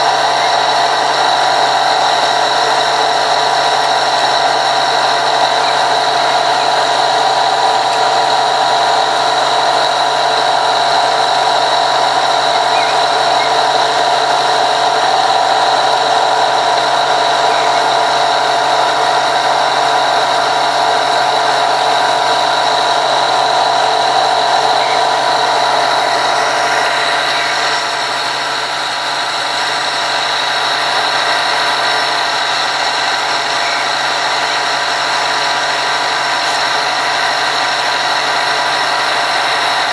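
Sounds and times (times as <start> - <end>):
machine humming: 0.0 - 39.9.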